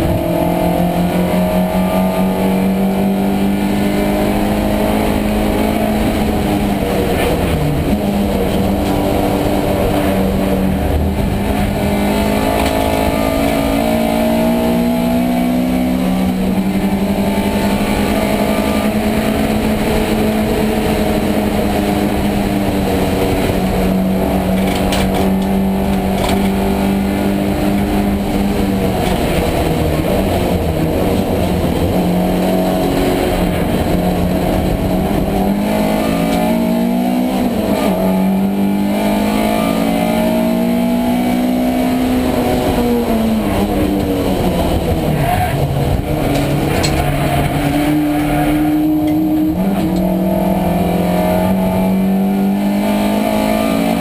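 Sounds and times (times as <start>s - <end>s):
race car engine revving: 0.0s - 54.0s
road and wind noise: 0.0s - 54.0s.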